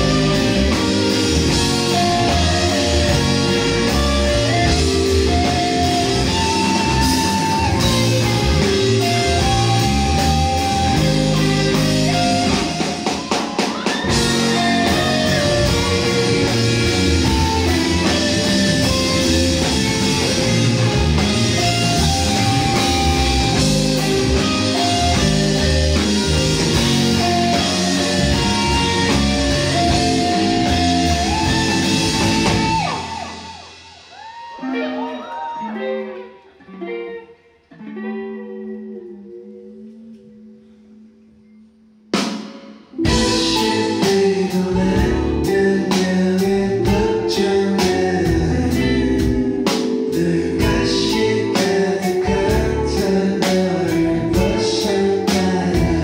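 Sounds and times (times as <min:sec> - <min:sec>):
live rock band playing: 0:00.0 - 0:40.8, 0:42.1 - 0:56.0.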